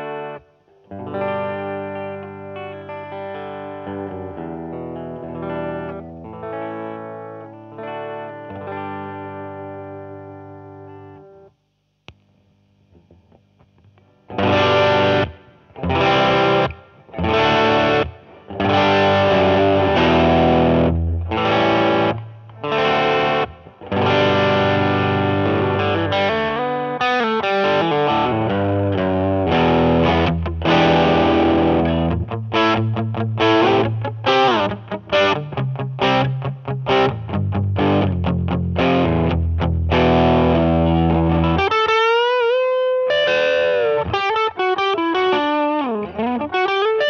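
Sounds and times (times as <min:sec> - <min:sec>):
overdriven electric guitar chords: 0:00.0 - 0:47.0.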